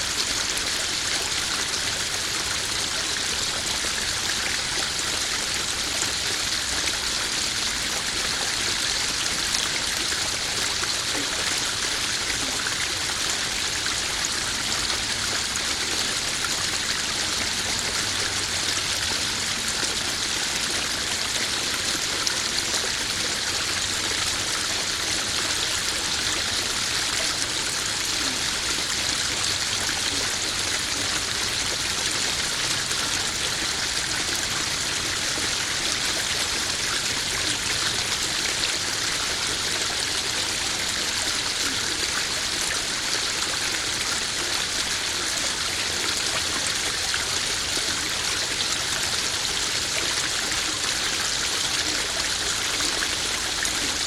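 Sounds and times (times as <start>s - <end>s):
waterfall splashing into pond: 0.0s - 54.0s.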